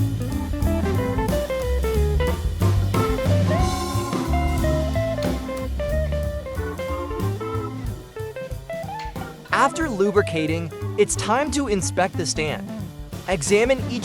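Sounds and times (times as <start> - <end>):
bluesy guitar music: 0.0 - 14.0
drum kit beat: 0.0 - 14.0.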